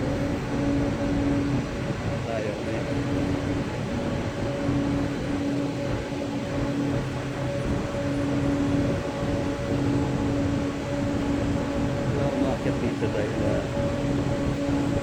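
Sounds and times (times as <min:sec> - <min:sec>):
power plant machinery drone: 0:00.0 - 0:15.0
pulsing humming tone: 0:00.0 - 0:15.0.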